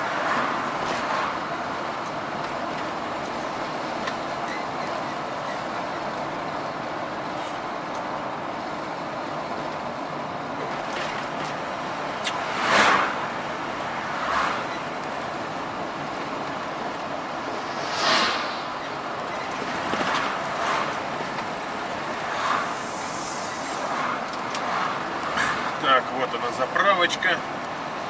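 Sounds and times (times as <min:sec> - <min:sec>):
truck driving on highway: 0:00.0 - 0:28.0
vehicles passing: 0:00.0 - 0:28.0.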